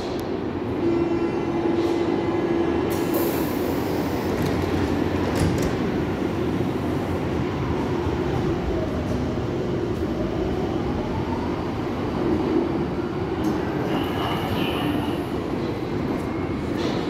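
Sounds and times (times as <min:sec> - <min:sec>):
underground train rumbling: 0:00.0 - 0:17.0.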